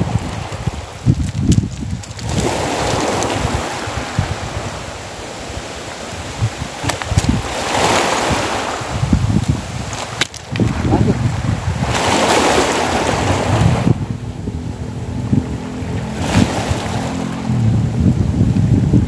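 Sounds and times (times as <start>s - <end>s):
waves washing onto rocky shore: 0.0s - 14.8s, 15.8s - 17.8s
wind rumbling on microphone: 0.0s - 19.0s.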